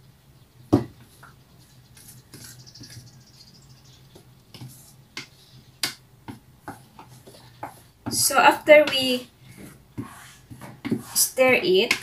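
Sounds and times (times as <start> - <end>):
spoon scraping in mixing bowl: 1.2 - 5.6, 6.7 - 12.0.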